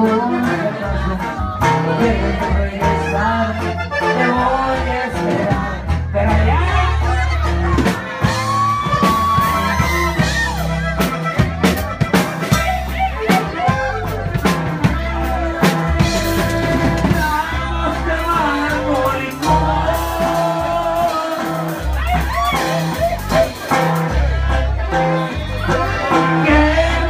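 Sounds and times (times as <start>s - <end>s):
person singing: 0.0s - 10.8s, 12.4s - 27.0s
drums: 0.0s - 27.0s
low bass line: 0.0s - 27.0s
pitched melody: 0.0s - 27.0s.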